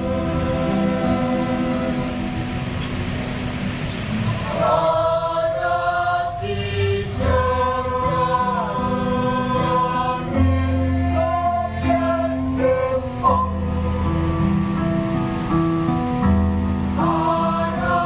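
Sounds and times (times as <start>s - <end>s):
choir singing in harmony: 0.0s - 3.1s, 3.7s - 15.5s, 16.2s - 18.0s.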